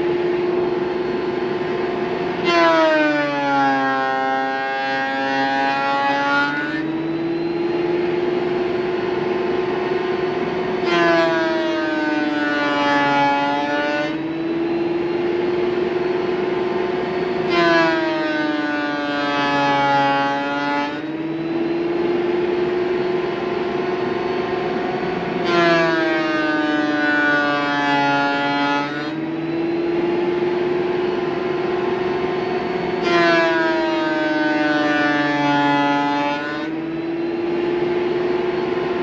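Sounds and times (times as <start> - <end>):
electric wood planer whining: 0.0 - 39.0
planer cutting boards: 0.0 - 39.0.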